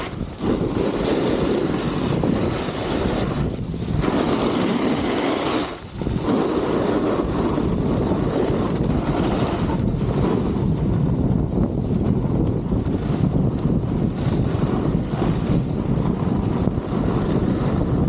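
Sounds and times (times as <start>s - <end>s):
snowboard scraping over snow: 0.0s - 18.0s
wind buffeting microphone: 0.0s - 18.0s.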